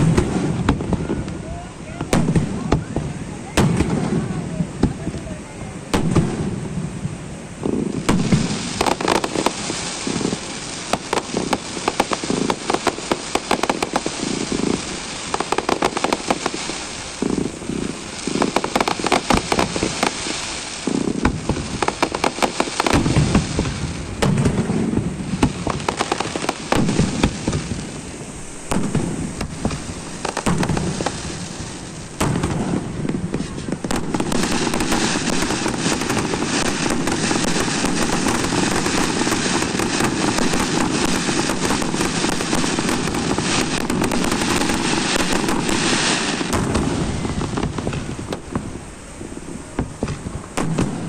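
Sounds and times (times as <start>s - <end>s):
deep fireworks bangs: 0.0s - 51.0s
fireworks crackling and popping: 0.0s - 51.0s.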